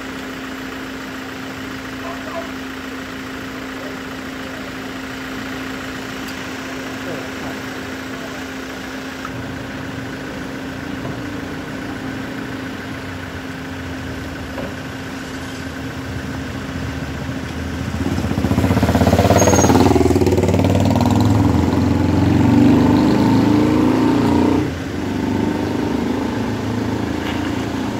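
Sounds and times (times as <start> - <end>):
engine idling: 0.0 - 22.4
louder engine running close by: 0.0 - 27.9.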